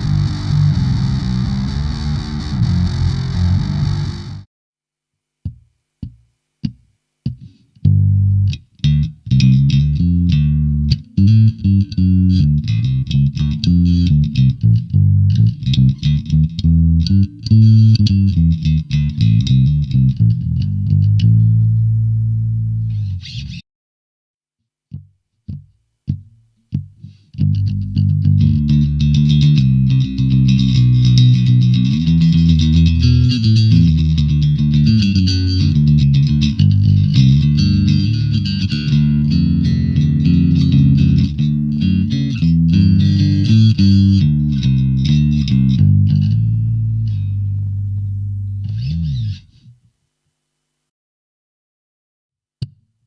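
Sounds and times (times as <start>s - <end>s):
electric bass notes plucked: 0.0s - 4.5s, 7.3s - 23.6s, 27.4s - 49.7s.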